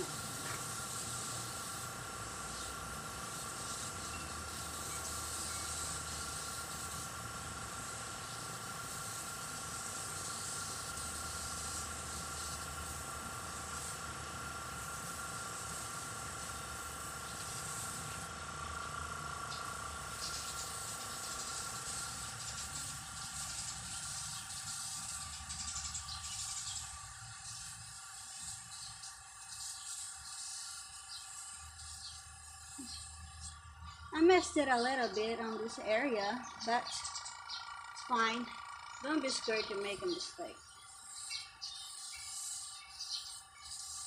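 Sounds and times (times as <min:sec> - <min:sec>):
airbrush spraying: 0:00.0 - 0:38.3, 0:39.0 - 0:44.0
constant low hum: 0:00.0 - 0:44.0.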